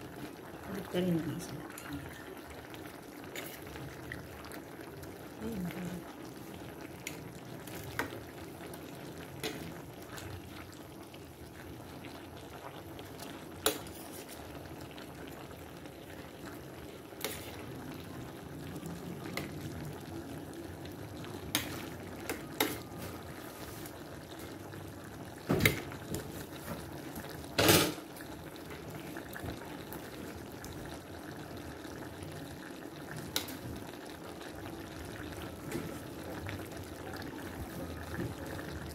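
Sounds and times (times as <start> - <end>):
pot simmering and bubbling: 0.0 - 38.9.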